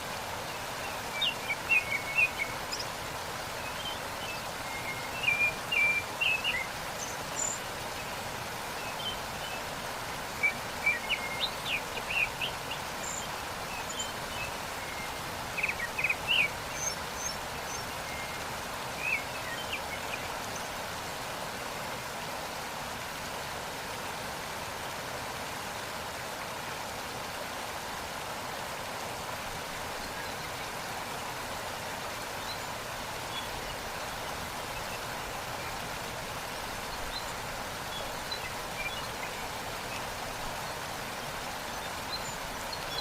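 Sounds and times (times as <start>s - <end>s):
water rushing over rocks: 0.0s - 43.0s.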